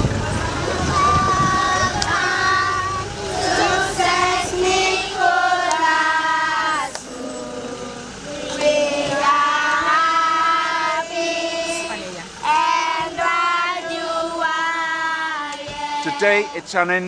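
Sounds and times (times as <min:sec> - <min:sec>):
children singing: 0:00.0 - 0:16.6.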